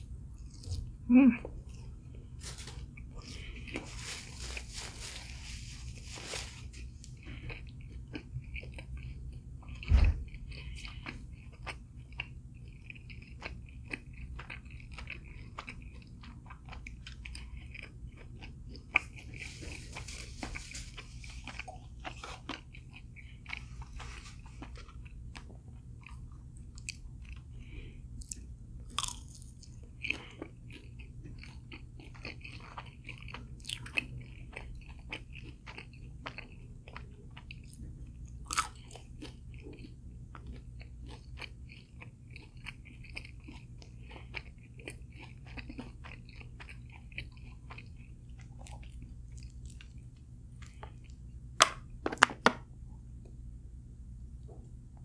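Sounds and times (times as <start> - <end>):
person crunching fried food: 1.7 - 52.0.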